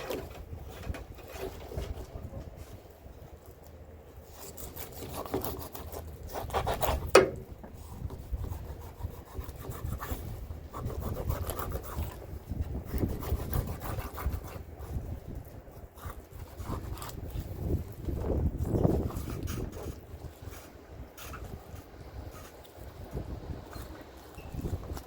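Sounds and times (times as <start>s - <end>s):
knife sawing and scraping fish: 4.1s - 25.0s.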